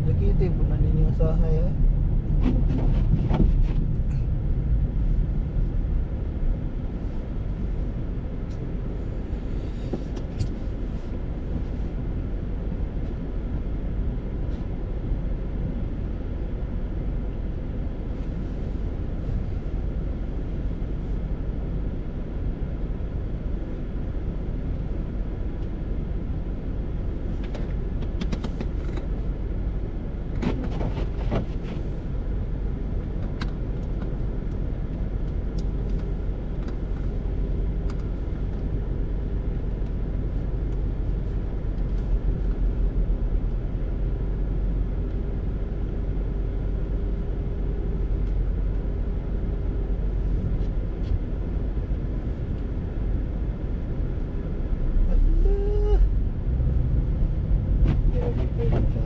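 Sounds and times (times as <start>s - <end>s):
car cabin rumble: 0.0s - 59.0s.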